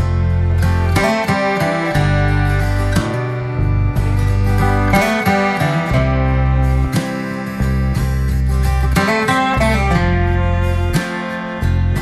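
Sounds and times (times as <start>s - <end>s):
acoustic guitar music with bass: 0.0s - 12.0s.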